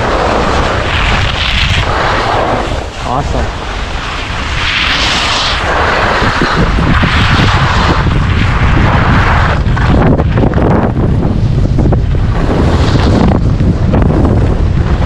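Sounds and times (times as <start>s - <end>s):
skis carving snow: 0.0s - 15.0s
wind on microphone: 0.0s - 15.0s.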